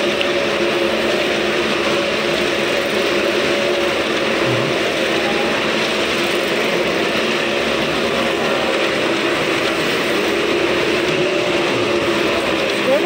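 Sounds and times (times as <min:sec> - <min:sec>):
motorcycle engines droning: 0:00.0 - 0:13.0.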